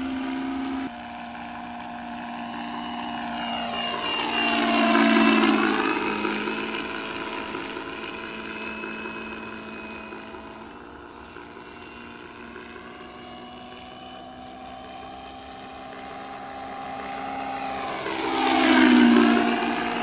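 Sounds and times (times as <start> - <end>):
simulated plane engine through speakers: 0.0 - 20.0.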